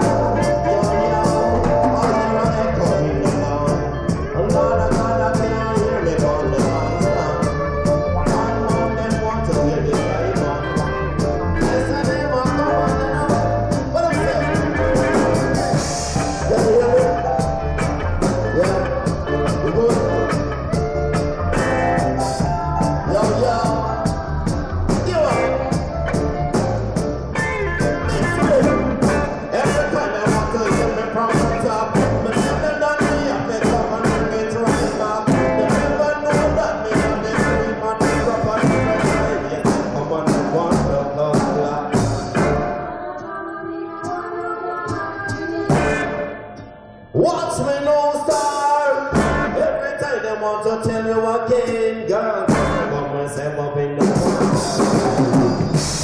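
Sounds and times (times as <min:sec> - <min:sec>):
live band playing amplified music: 0:00.0 - 0:56.0.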